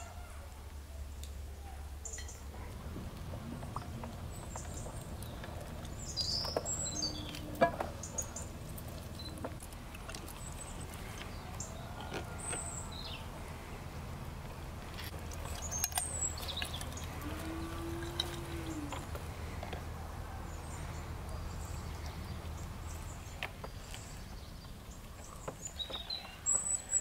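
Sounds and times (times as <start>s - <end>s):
small birds chirping: 1.0s - 27.0s.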